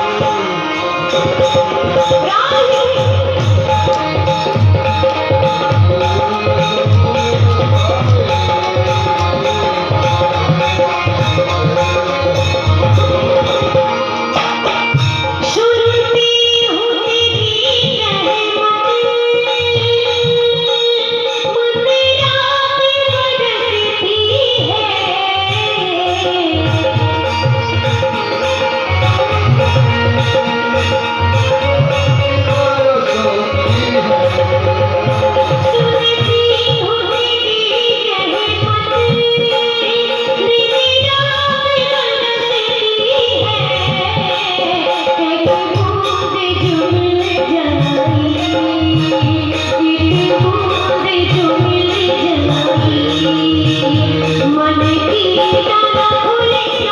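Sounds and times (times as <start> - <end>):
devotional song melody: 0.0 - 56.9.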